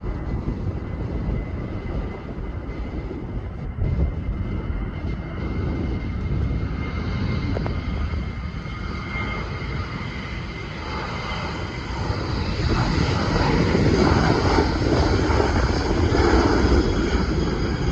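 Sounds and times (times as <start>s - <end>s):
airplane engines whining: 0.0s - 17.9s.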